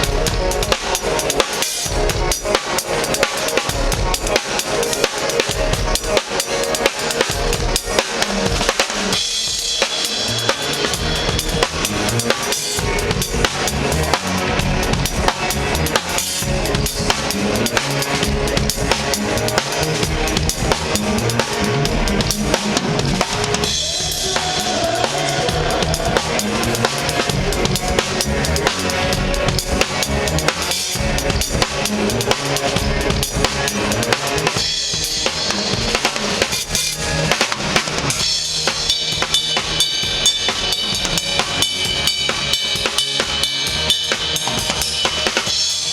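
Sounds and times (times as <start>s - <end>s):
drum kit playing: 0.0s - 45.9s.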